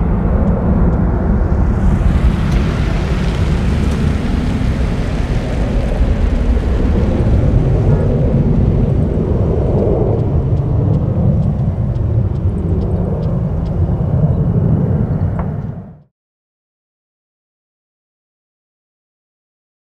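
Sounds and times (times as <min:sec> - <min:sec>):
jet airliner flying overhead: 0:00.0 - 0:16.1.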